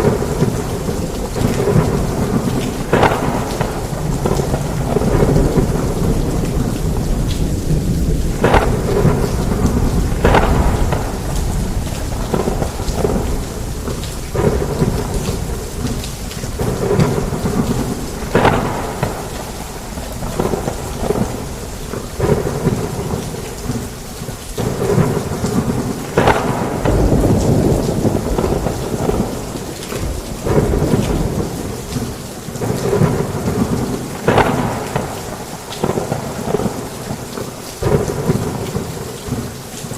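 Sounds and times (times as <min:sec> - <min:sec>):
heavy rain on a roof: 0:00.0 - 0:39.9
thunder rumbling: 0:00.0 - 0:39.9.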